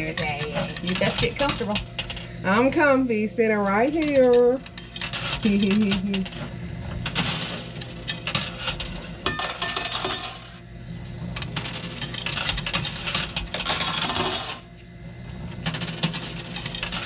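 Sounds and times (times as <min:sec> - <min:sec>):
coins clinking in coin pusher: 0:00.0 - 0:02.8, 0:03.5 - 0:17.0
low machine hum: 0:00.0 - 0:17.0.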